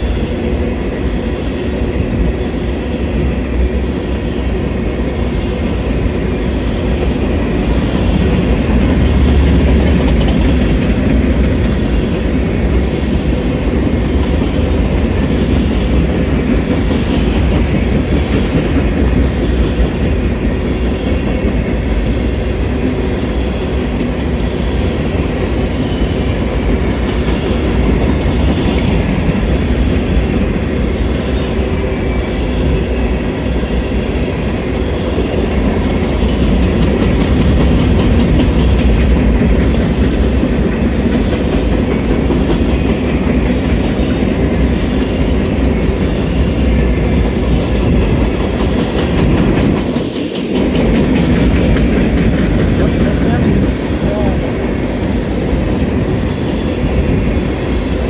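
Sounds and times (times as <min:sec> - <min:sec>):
freight train rolling rumble: 0:00.0 - 0:58.0
wheel clatter on rails: 0:06.9 - 0:58.0.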